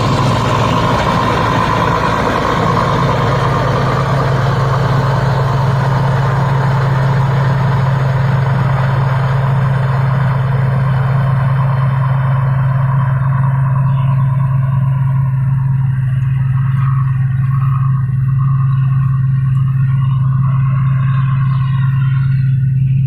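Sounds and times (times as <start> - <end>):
combine harvester engine humming: 0.0 - 23.0
high-pitched mechanical noise: 0.0 - 23.0.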